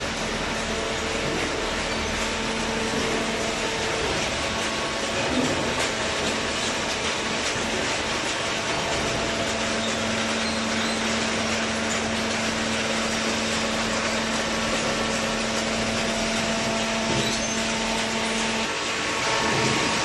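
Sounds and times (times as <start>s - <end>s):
baler machine running: 0.0s - 20.0s.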